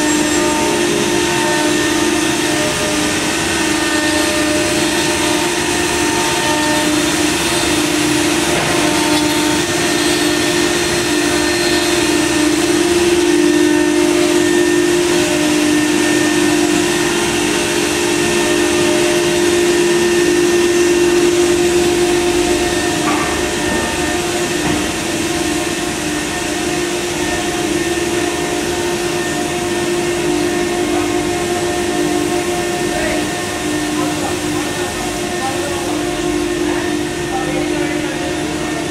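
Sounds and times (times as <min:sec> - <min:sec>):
dust extraction rushing: 0:00.0 - 0:38.9
router spindle whine: 0:00.0 - 0:38.9.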